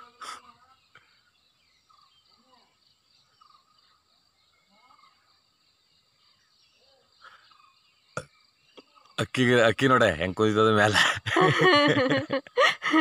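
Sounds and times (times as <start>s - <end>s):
high insect drone: 0.0s - 12.9s.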